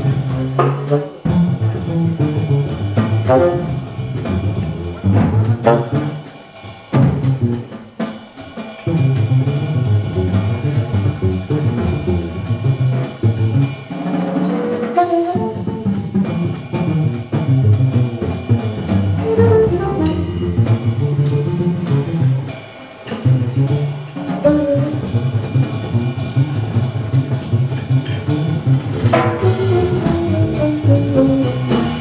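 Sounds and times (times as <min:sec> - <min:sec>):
plucked double bass: 0:00.0 - 0:06.3, 0:07.0 - 0:07.7, 0:08.8 - 0:14.0, 0:14.6 - 0:32.0
jazz drum kit: 0:00.0 - 0:32.0.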